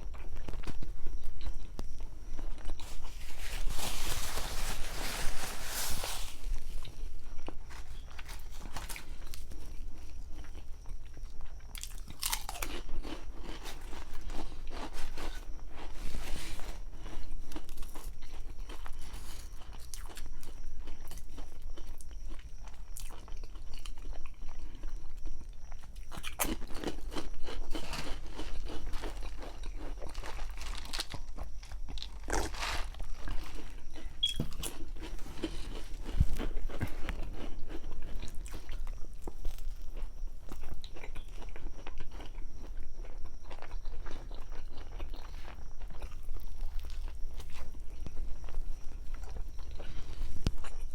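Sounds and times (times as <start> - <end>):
crunchy bites and chewing: 0.0 - 50.9.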